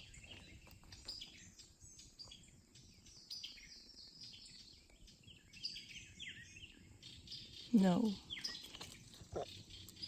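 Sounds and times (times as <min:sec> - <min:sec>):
small songbirds chirping: 0:00.0 - 0:10.0.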